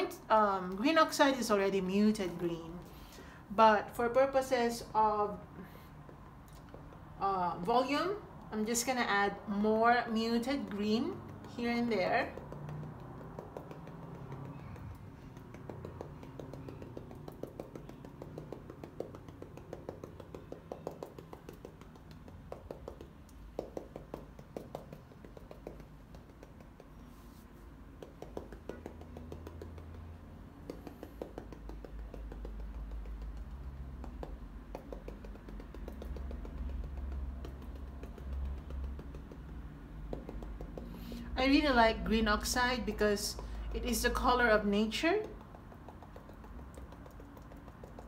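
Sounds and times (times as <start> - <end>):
paint dauber tapping canvas: 6.0 - 7.2, 9.8 - 48.0.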